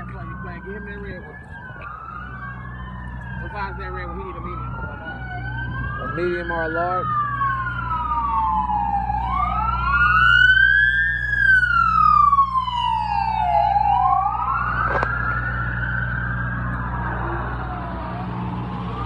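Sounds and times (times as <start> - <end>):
steady low rumble: 0.0 - 19.0
wailing siren: 0.0 - 19.0.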